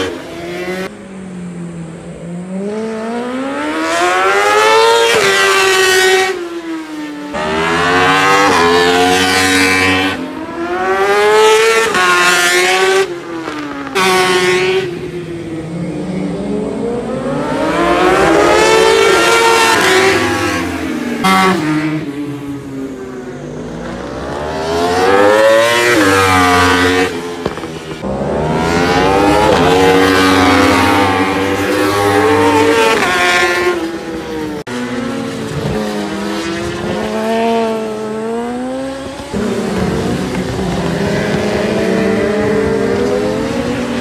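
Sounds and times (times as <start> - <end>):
racing motorcycles passing: 0.0 - 44.0.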